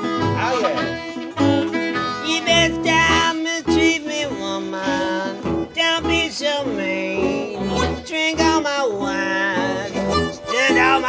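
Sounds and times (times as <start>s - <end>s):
plucked acoustic guitar: 0.0s - 11.0s
sliding bending lead guitar: 0.0s - 11.0s
walking bass: 0.0s - 11.0s.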